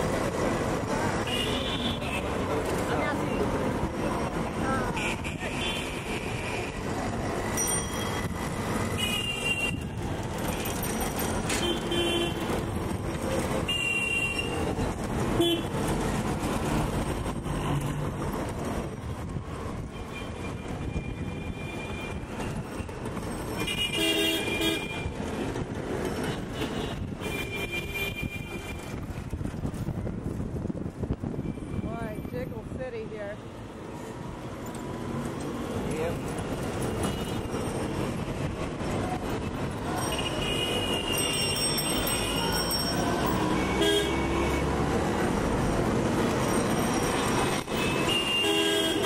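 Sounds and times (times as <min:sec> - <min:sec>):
road rumble: 0:00.0 - 0:49.0.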